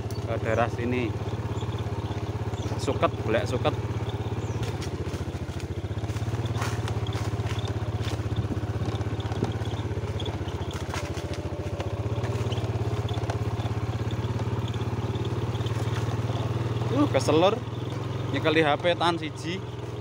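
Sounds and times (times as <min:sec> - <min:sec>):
bike knocking over rough track: 0:00.0 - 0:19.0
motorcycle engine running: 0:00.0 - 0:20.0.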